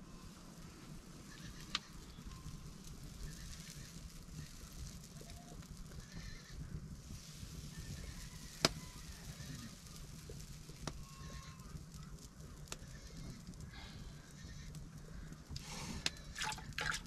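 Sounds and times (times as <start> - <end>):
wood fire crackling: 0.0 - 17.0
sharp pops from fire: 0.6 - 17.0.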